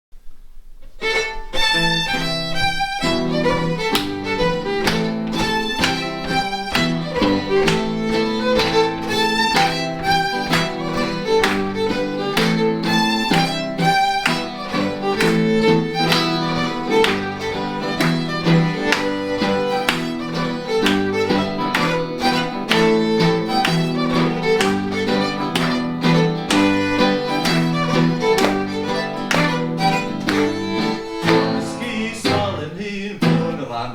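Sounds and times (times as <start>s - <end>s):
electric guitar accompaniment: 1.0s - 33.7s
fiddle playing a tune: 1.0s - 33.7s.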